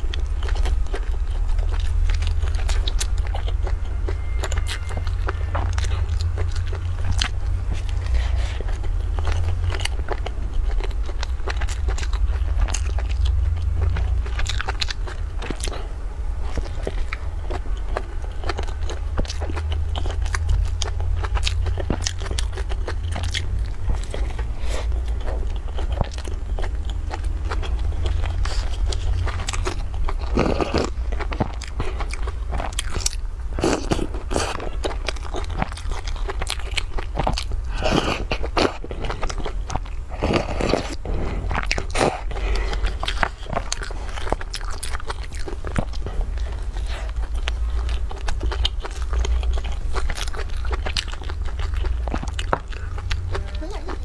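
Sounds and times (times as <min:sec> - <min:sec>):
chewing soft buns: 0:00.0 - 0:54.0
low rumble: 0:00.0 - 0:54.0.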